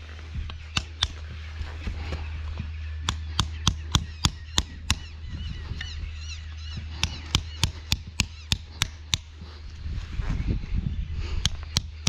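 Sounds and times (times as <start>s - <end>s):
birds calling: 0.0s - 12.0s
low steady hum: 0.0s - 12.0s.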